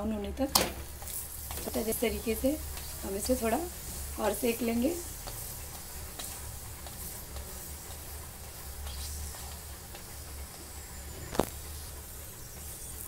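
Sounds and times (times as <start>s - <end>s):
flatbread sizzling on a griddle: 0.5s - 13.0s.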